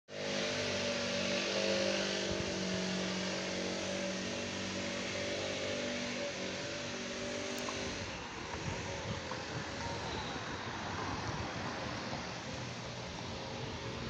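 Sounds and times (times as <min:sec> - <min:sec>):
engine drone with hiss: 0:00.1 - 0:14.0.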